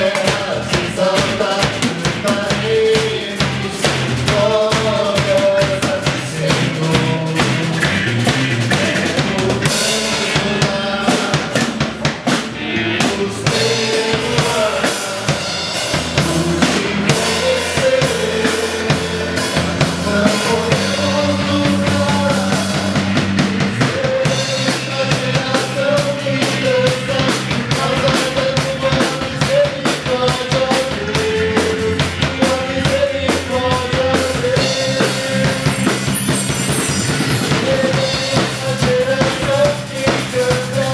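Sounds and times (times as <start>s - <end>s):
drum kit beat: 0.0s - 40.9s
electric bass: 0.0s - 40.9s
electric guitar: 0.0s - 40.9s
person singing: 0.0s - 40.9s.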